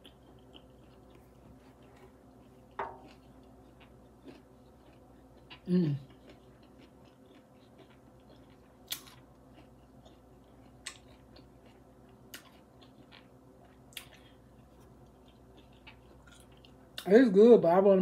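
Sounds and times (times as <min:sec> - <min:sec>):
person chewing food: 0:00.0 - 0:17.1
faint steady hum: 0:00.0 - 0:18.0.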